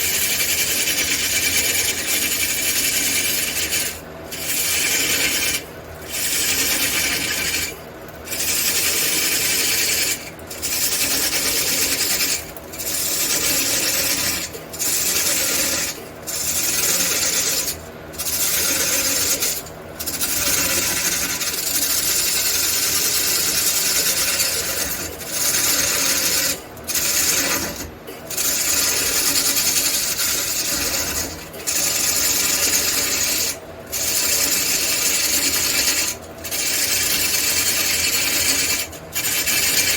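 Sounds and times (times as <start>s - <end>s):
wood lathe tool scraping hiss: 0.0s - 39.9s.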